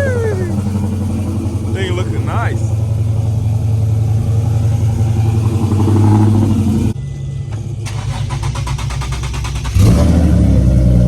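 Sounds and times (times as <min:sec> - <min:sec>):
car engine revving: 0:00.0 - 0:07.0, 0:07.8 - 0:11.0.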